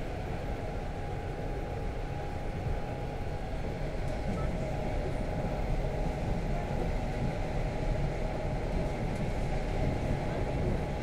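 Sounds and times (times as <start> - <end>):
thin train whine: 0.0 - 11.0
wheels rumbling on track: 0.0 - 11.0.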